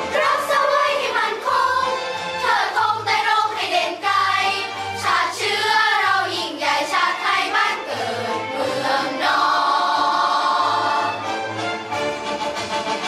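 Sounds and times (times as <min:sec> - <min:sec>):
children's choir singing: 0:00.0 - 0:11.6.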